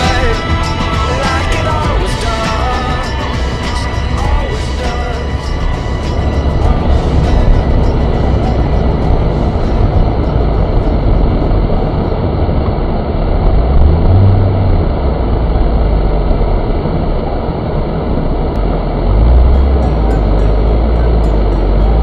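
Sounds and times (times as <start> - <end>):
car engine and tyre rumble: 0.0 - 22.0
rushing road noise: 0.0 - 22.0.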